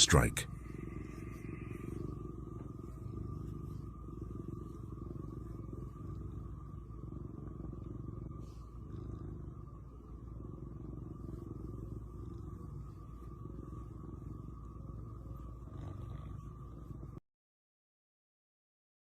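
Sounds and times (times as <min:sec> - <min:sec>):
cat purring: 0:00.0 - 0:17.2.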